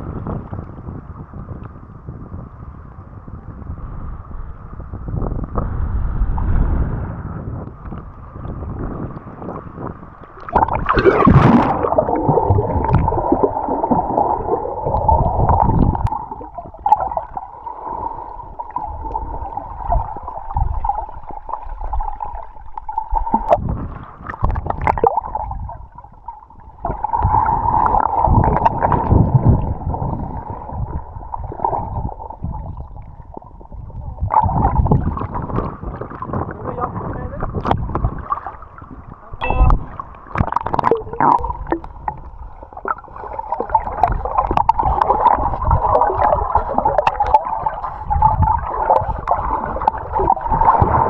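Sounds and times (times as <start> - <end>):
water sloshing and gurgling: 4.4 - 51.0.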